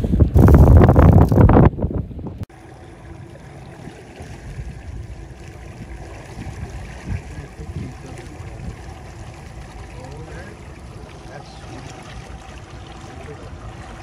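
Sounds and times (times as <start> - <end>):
outboard motor humming: 0.0 - 14.0
water lapping at hull: 0.0 - 14.0.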